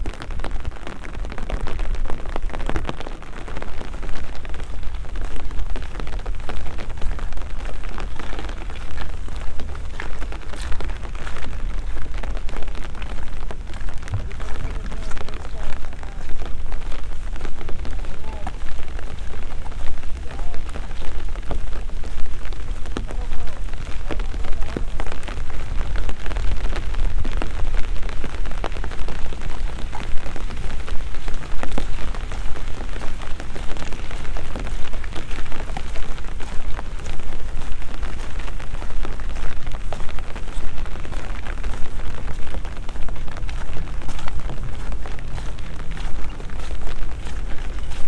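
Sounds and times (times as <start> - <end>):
low rain rumble: 0.0 - 48.0
rain drops tapping: 0.0 - 48.0.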